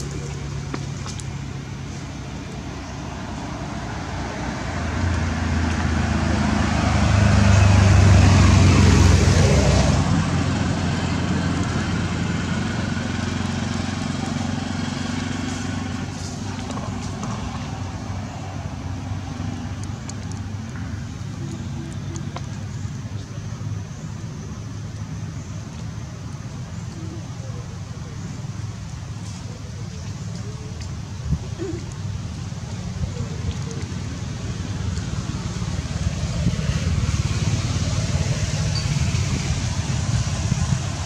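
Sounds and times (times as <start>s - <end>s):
vehicle passing by: 0.0s - 41.0s.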